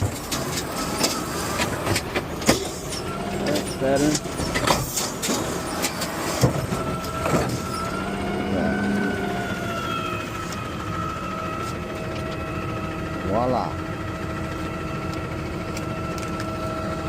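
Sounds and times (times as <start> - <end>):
hydraulic whine: 0.0 - 17.0.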